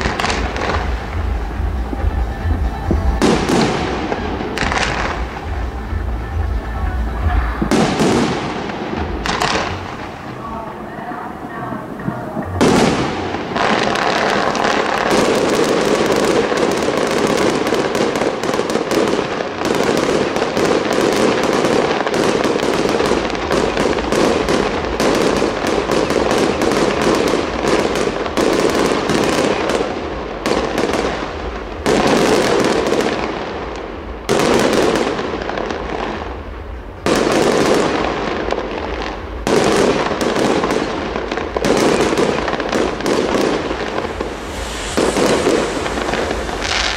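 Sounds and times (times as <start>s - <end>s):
fireworks bangs and bursts: 0.0s - 46.9s.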